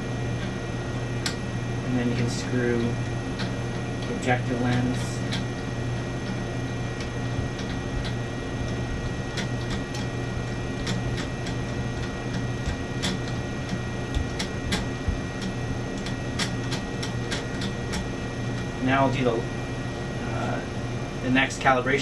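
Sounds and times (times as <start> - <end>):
low hum of lab equipment: 0.0 - 22.0.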